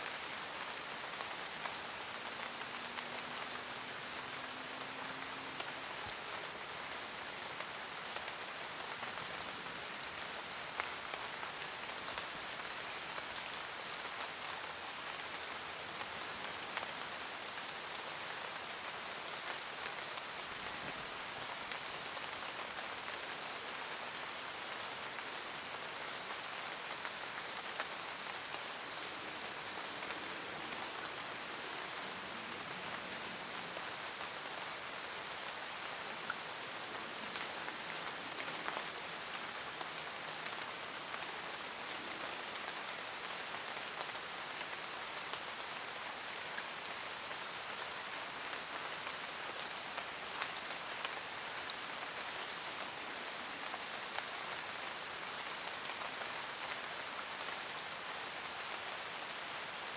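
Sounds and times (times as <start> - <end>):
raindrops pattering: 0.0 - 59.6
steady rain in a forest: 0.0 - 59.9.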